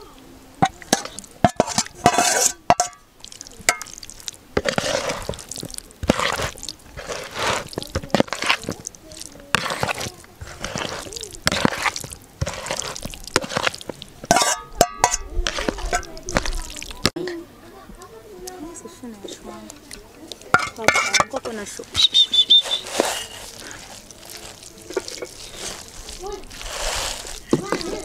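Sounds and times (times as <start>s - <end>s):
spoon squelching and scraping food: 0.6s - 17.2s, 19.1s - 28.0s.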